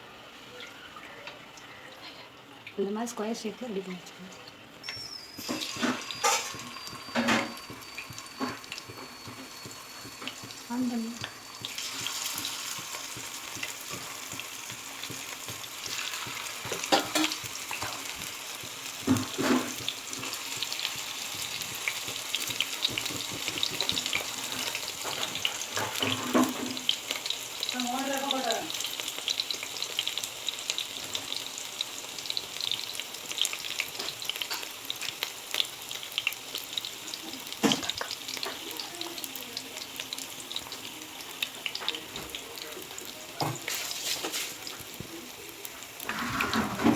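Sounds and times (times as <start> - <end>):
hot oil sizzling in a pan: 4.8 - 46.9.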